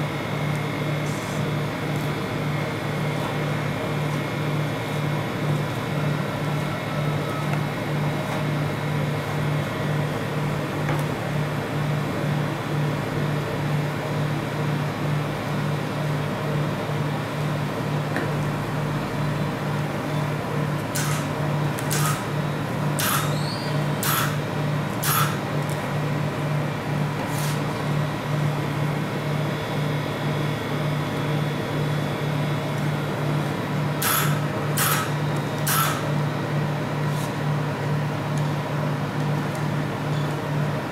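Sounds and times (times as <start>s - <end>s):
refrigerated cold plate humming: 0.0s - 40.9s.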